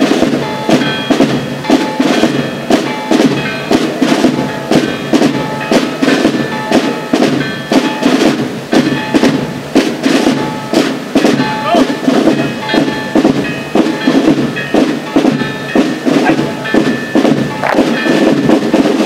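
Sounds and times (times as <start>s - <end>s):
bugle and drum band march: 0.0s - 19.0s.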